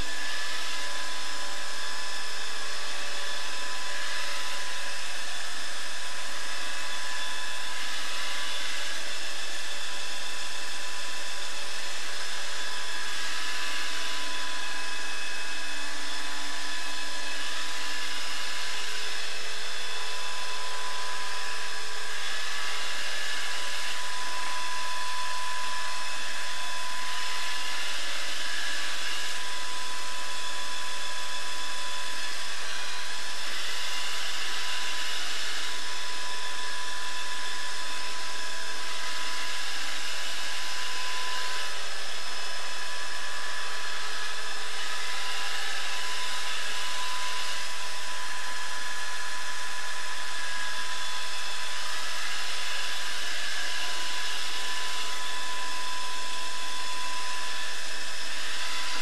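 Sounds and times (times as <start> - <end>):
robot vacuum cleaner whirr: 0.0 - 59.0.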